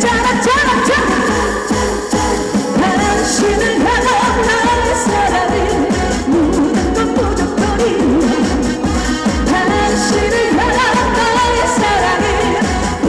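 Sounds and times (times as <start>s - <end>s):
trot music over loudspeaker: 0.0s - 13.0s.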